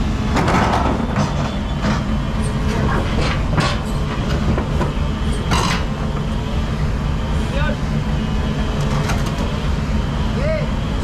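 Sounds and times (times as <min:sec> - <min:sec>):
steel tracks knocking and clanking: 0:00.0 - 0:10.1
diesel engine running: 0:00.0 - 0:11.0.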